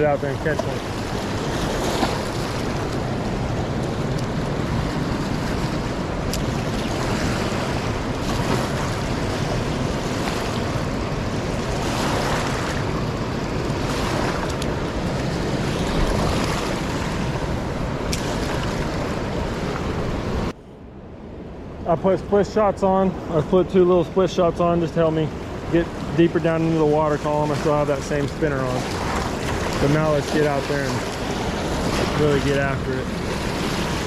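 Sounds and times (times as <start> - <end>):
fast-flowing river rushing: 0.0 - 20.5, 23.3 - 34.0
wind buffeting microphone: 0.0 - 20.5, 24.7 - 34.0.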